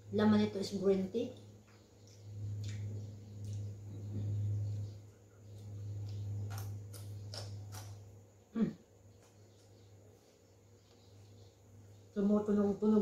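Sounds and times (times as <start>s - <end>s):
steady low hum: 0.0s - 13.0s
crunchy chewing of vegetables: 1.7s - 12.1s.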